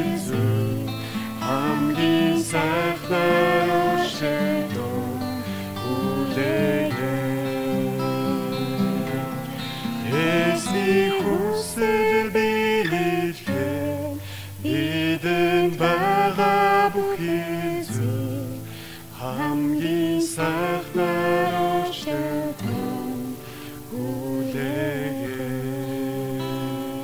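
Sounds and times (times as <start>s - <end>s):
woman singing a hymn: 0.0s - 18.6s, 19.2s - 27.0s
acoustic guitar: 0.0s - 27.0s.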